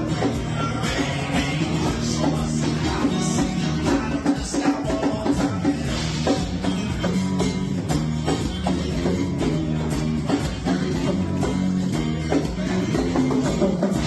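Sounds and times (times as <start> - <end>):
drum kit beat: 0.0 - 14.0
strummed electric guitar: 0.0 - 14.0.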